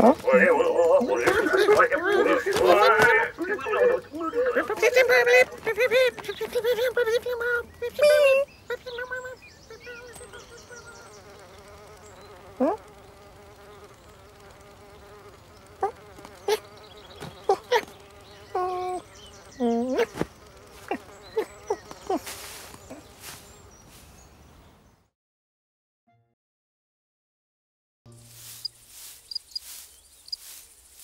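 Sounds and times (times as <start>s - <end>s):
cartoon fly buzzing: 0.0s - 24.3s, 28.1s - 31.0s.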